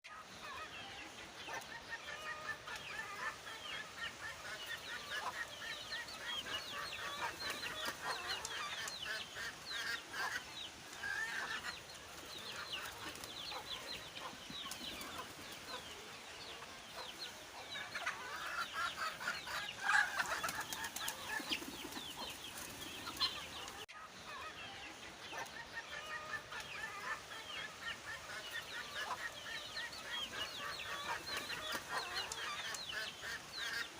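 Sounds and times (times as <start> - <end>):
birds chirping and clucking: 0.1 - 33.9.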